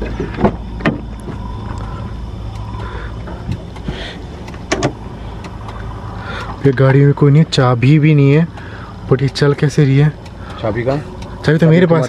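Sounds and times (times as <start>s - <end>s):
car engine idling: 0.0s - 12.0s
light ticks: 1.2s - 11.8s.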